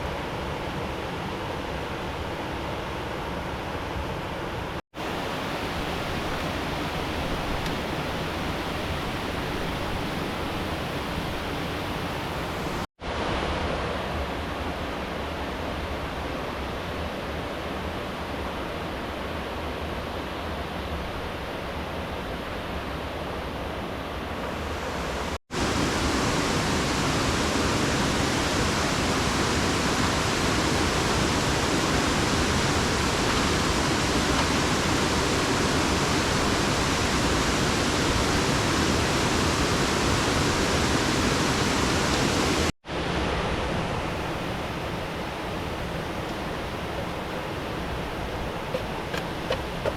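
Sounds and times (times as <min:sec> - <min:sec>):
rushing river water: 0:00.0 - 0:49.9.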